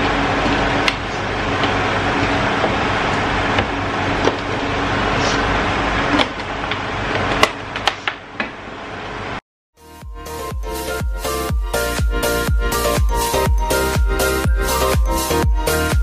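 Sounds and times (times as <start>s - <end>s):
generator running: 0.0s - 16.0s.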